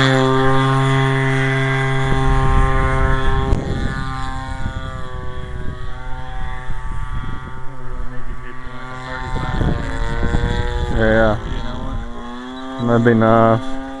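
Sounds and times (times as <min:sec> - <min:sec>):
model airplane engine buzzing: 0:00.0 - 0:14.0
wind on microphone: 0:00.0 - 0:14.0.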